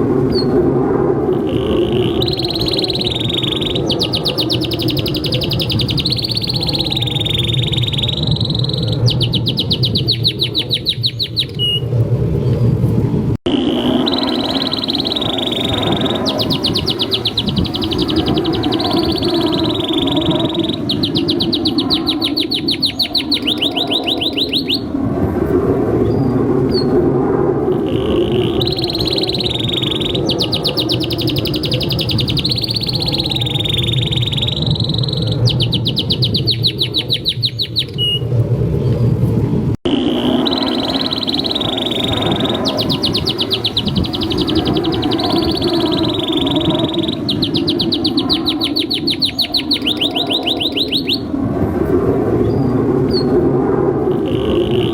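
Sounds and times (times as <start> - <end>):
canary singing trills: 1.3 - 11.9, 13.5 - 24.9, 27.8 - 38.2, 39.9 - 51.3, 54.1 - 54.9.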